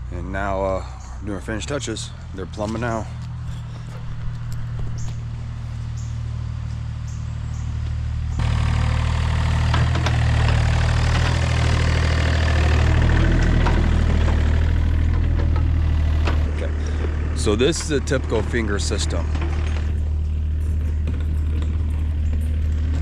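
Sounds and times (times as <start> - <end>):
engine clatter: 0.0 - 23.0
excavator diesel engine running: 0.0 - 23.0.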